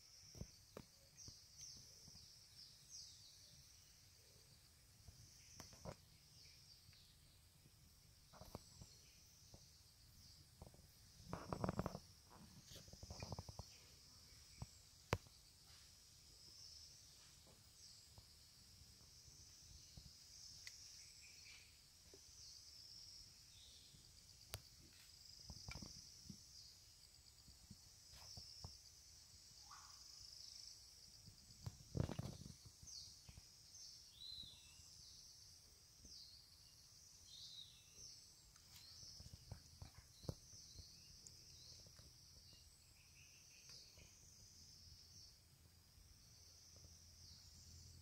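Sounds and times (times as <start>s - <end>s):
small birds chirping: 0.0s - 48.0s
steady high hiss: 0.0s - 48.0s.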